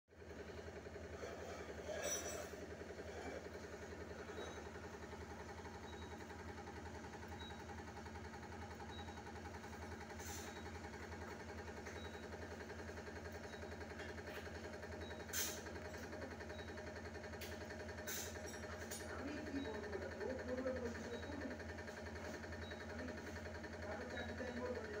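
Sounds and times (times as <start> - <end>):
hydraulic pump humming: 0.3 - 25.0.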